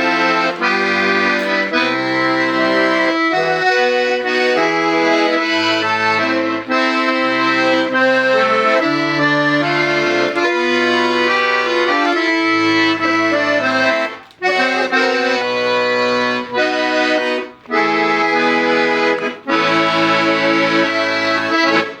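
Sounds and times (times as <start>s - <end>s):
piano accordion chords: 0.0s - 22.0s.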